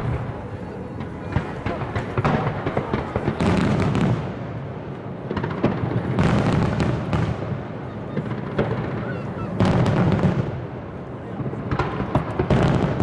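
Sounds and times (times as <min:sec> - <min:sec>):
firework shells booming: 0:00.0 - 0:13.0.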